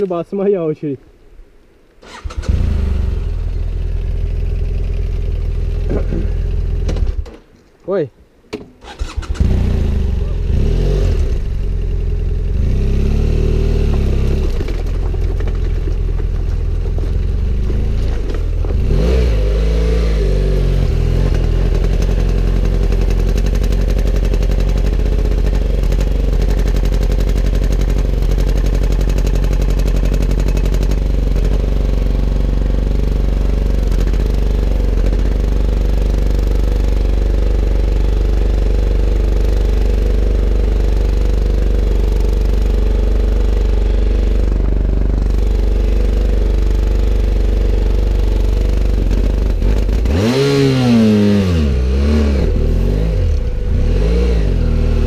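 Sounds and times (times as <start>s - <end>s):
motorcycle engine running: 2.5s - 7.2s, 9.0s - 55.0s.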